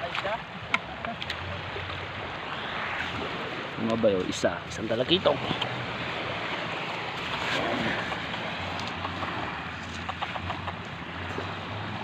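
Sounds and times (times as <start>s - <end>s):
surf on pebbly beach: 0.0s - 12.0s.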